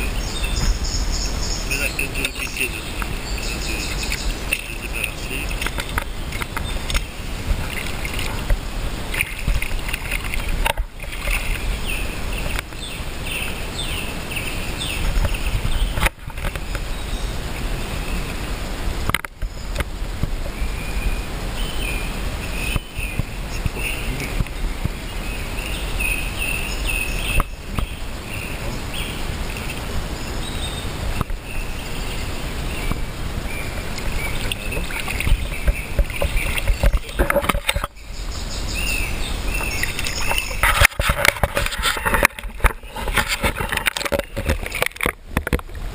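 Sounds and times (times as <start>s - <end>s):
river water rippling: 0.0s - 45.9s.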